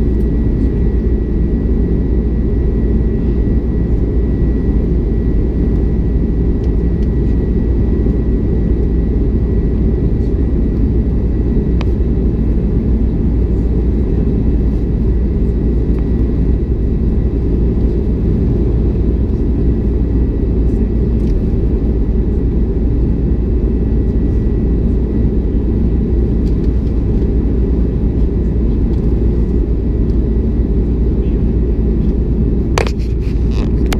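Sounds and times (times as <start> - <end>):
jet engines droning: 0.0 - 33.9.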